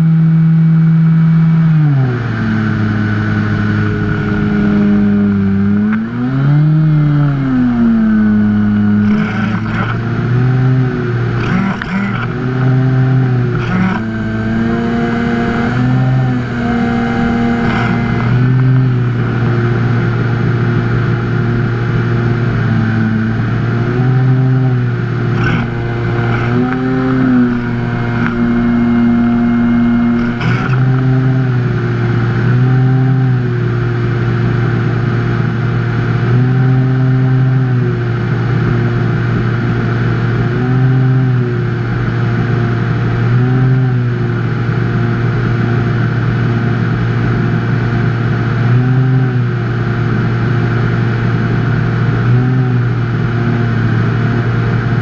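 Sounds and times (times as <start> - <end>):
electric motor and propeller: 0.0 - 55.0.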